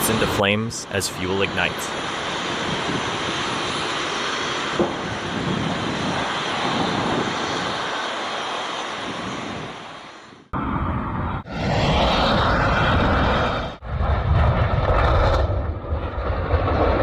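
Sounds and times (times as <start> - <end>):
heavy aircraft engine noise: 0.0 - 14.2
jet engine running: 0.0 - 17.0.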